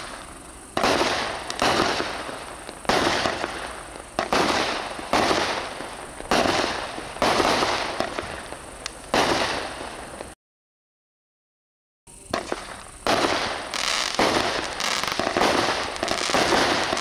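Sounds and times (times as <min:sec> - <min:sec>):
fireworks shots: 0:00.0 - 0:10.4, 0:12.1 - 0:17.0.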